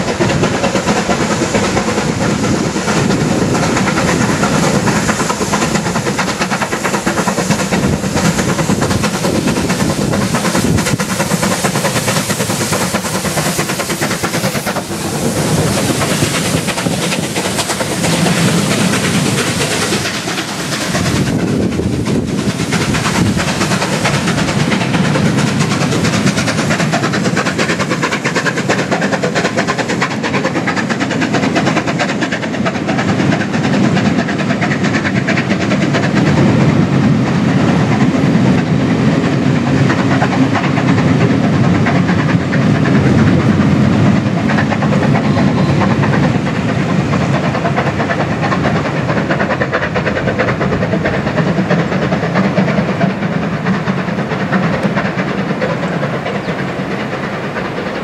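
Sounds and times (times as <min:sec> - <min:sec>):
rush of steam: 0:00.0 - 0:58.0
wheels clattering on rails: 0:00.0 - 0:58.0.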